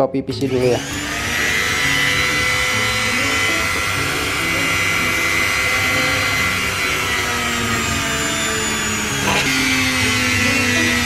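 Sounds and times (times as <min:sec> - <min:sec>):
drill bit crackle: 0:00.4 - 0:11.0
mini grinder whining: 0:00.4 - 0:11.0.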